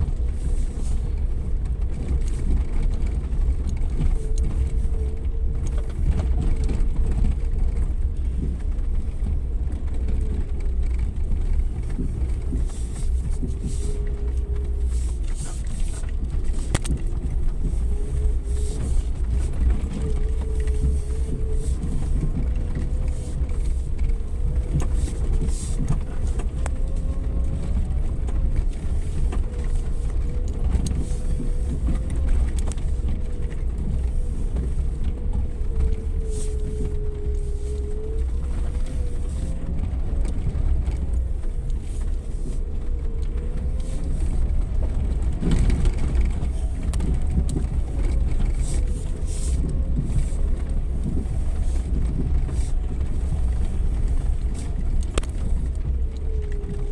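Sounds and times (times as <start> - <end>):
drivetrain whine: 0.0 - 56.9
engine and drivetrain rumble: 0.0 - 56.9.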